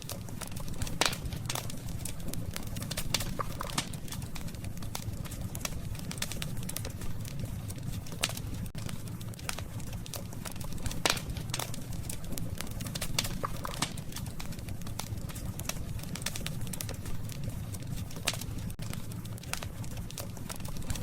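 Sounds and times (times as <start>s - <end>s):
campfire crackling and popping: 0.0s - 21.0s
low rumble of burning fire: 0.0s - 21.0s.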